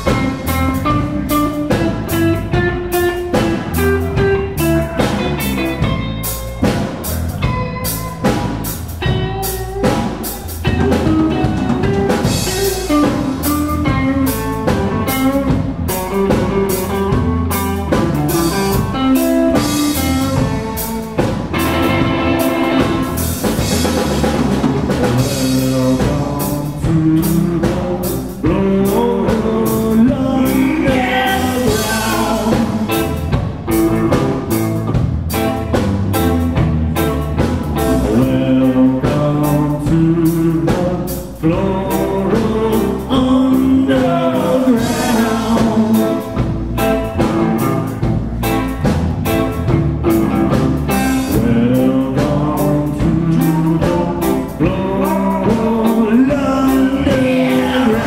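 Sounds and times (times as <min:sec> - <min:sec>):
drum kit: 0:00.0 - 0:58.0
electric bass: 0:00.0 - 0:58.0
electric guitar: 0:00.0 - 0:58.0.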